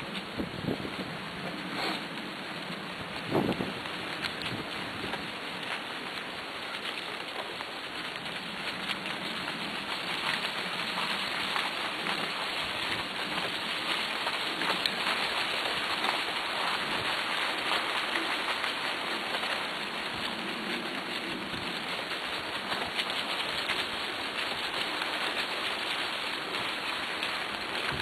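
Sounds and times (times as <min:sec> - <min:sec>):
paws and wheels rustling on leaves: 0:00.0 - 0:28.0.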